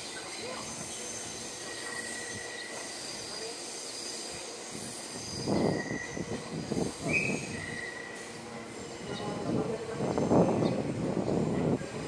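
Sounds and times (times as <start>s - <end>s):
train wheels squealing: 0.0s - 11.9s.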